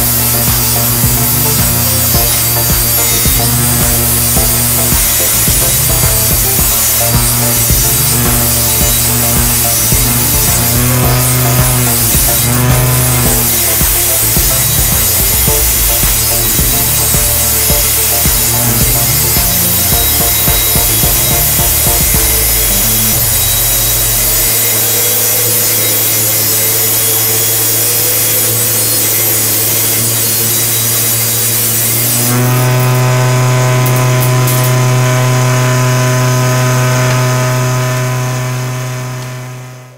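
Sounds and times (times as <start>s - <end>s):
saw blade cutting wood: 0.0s - 39.9s
table saw motor hum: 0.0s - 39.9s.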